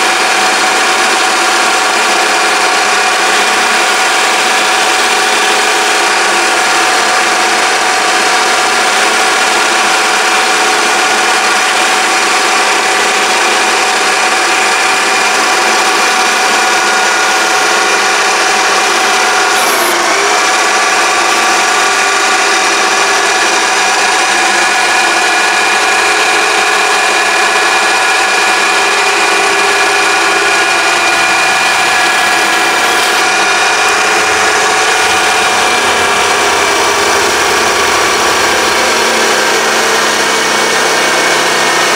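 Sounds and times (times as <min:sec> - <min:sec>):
lathe motor whining: 0:00.0 - 0:41.9.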